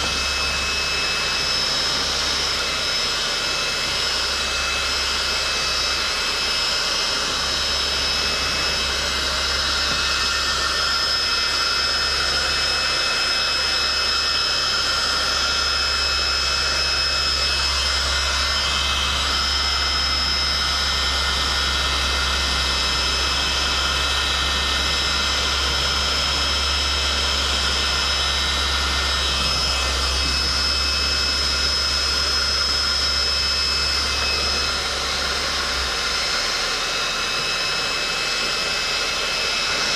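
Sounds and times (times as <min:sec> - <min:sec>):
fan motor whine: 0:00.0 - 0:39.9
heat gun air rush: 0:00.0 - 0:39.9
low hum: 0:00.0 - 0:39.9.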